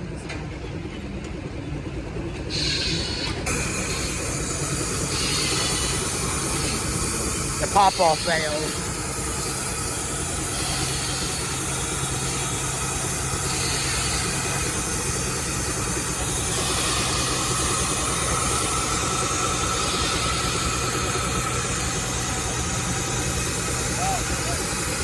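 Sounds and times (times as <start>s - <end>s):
steady high whine: 0.0s - 25.0s
steam engine hum and hiss: 0.0s - 25.0s.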